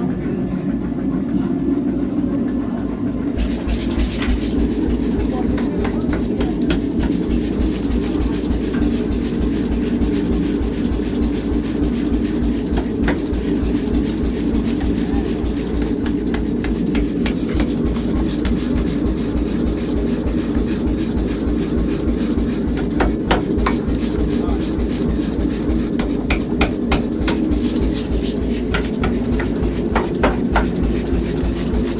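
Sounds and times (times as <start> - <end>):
machine rumbling: 0.0 - 31.9
fast high ticking: 3.4 - 31.9.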